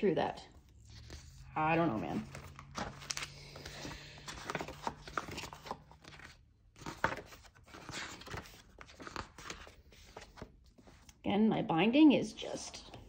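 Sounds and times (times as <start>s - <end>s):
paper pages rustling and flicking: 0.6s - 11.1s.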